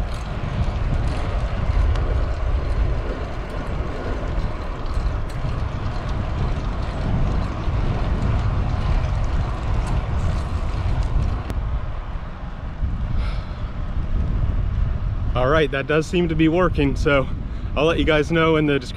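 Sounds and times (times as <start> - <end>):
bicycle tyres on asphalt: 0.0 - 18.9
wind rumble on microphone: 0.0 - 18.9.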